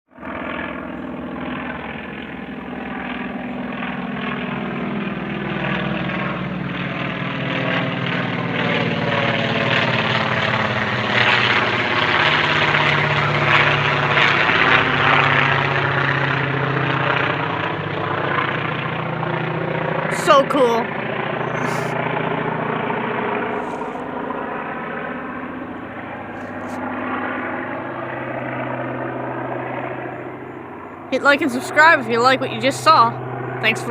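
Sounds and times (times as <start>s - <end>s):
airplane engine drone overhead: 0.1s - 33.9s.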